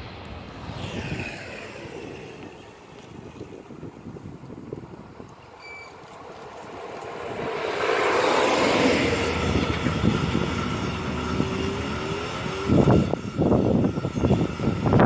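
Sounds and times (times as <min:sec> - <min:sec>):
train wheels rattling on rails: 0:01.8 - 0:15.0.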